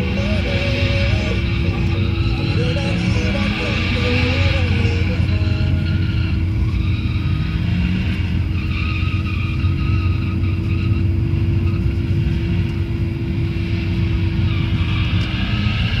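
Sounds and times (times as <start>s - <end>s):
car engine at high revs: 0.0s - 16.0s
tyres skidding: 0.0s - 16.0s.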